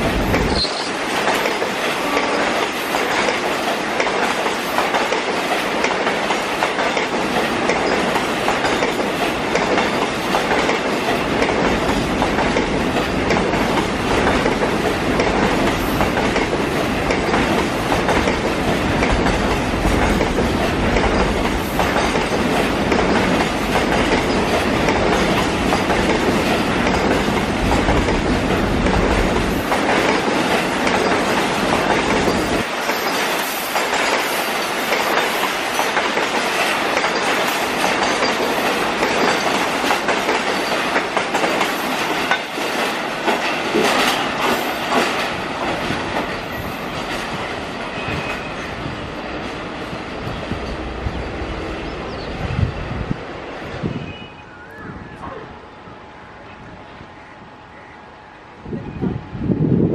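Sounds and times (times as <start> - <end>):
train wheels clattering over rail joints: 0.0 - 48.6
deep train rumble: 0.0 - 59.9.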